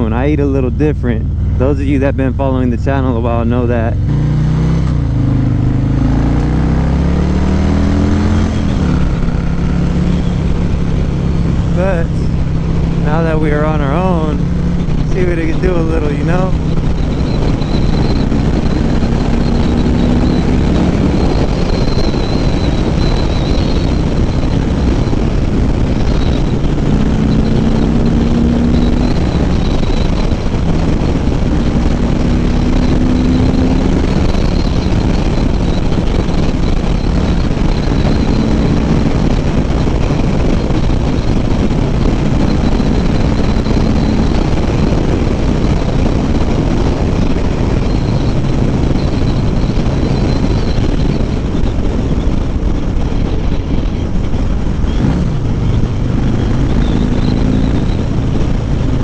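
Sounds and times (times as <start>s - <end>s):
motorcycle engine accelerating: 0.0s - 59.0s
wind rushing on microphone: 0.0s - 59.0s.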